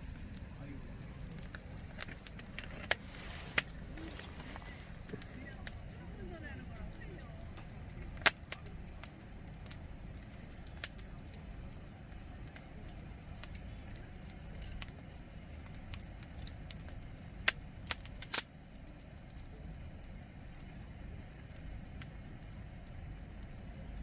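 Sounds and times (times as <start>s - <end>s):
campfire crackling: 0.0s - 24.0s
steady low rumble: 0.0s - 24.0s.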